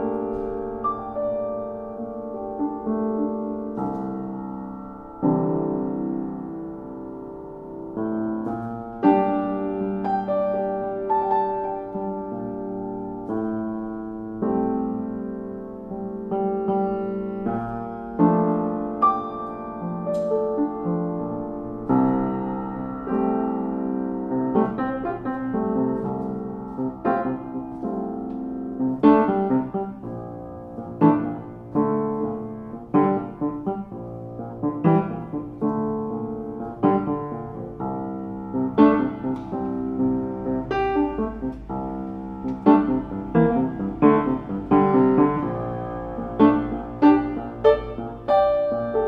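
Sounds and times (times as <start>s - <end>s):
upright piano playing: 0.0s - 49.0s.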